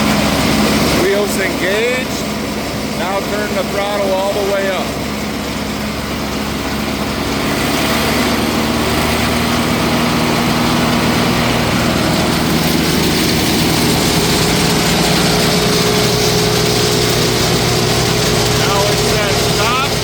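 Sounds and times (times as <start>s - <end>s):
wood chipper diesel engine: 0.0s - 20.0s.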